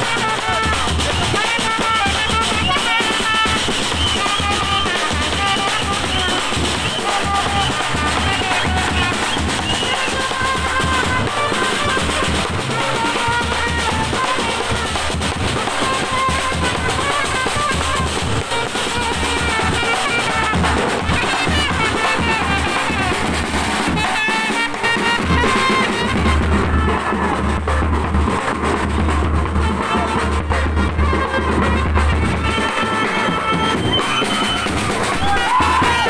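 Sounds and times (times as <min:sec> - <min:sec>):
big drums beating: 0:00.0 - 0:36.0
trumpets playing tune: 0:00.0 - 0:36.0.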